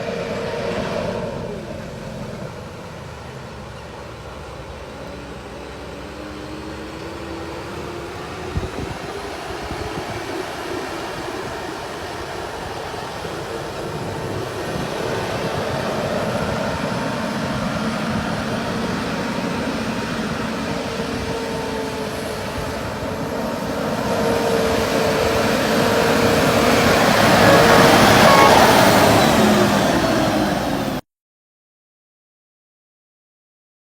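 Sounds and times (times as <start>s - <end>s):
truck diesel engine whining: 0.0s - 31.0s.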